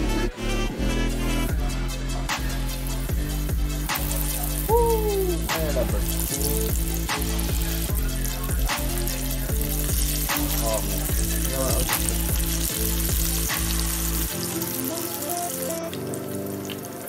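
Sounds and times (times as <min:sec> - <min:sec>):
background music with bass beat: 0:00.0 - 0:17.0
oil sizzling while deep-frying: 0:01.4 - 0:17.0.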